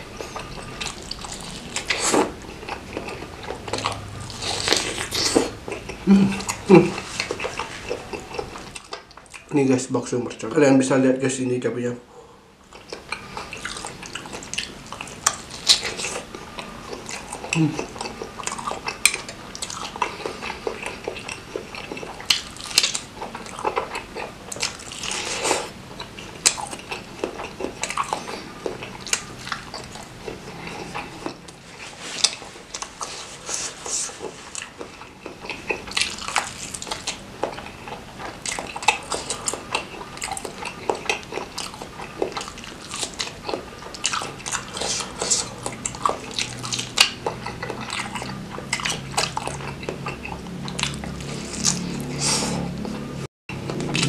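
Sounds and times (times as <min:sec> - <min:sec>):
close-up wet chewing: 0:00.0 - 0:09.9, 0:12.6 - 0:54.0.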